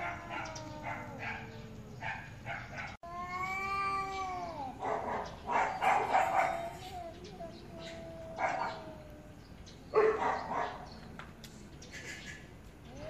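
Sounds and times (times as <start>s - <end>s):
cats yowling: 0.0s - 10.8s.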